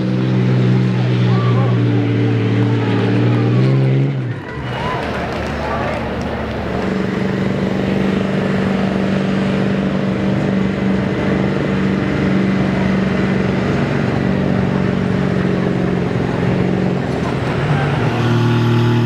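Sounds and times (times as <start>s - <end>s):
truck engine running at high revs: 0.0s - 19.0s.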